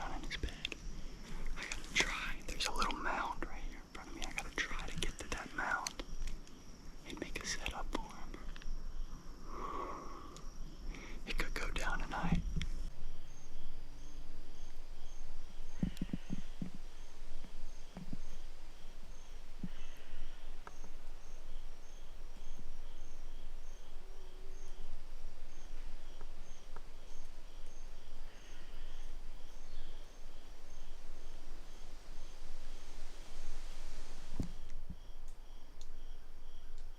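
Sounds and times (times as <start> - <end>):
insect chirping: 0.0 - 36.9.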